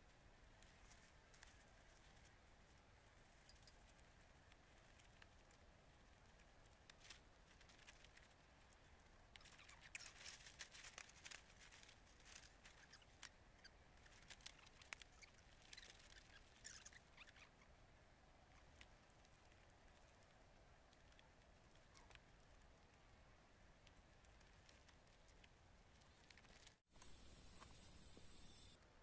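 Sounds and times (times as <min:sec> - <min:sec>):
faint crackles and ticks: 0:00.0 - 0:29.0.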